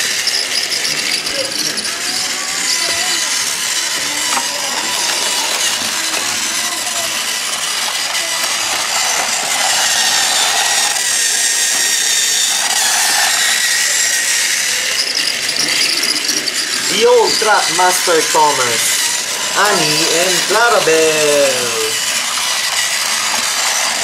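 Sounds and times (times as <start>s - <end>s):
toy train motor whirring: 0.0s - 24.0s.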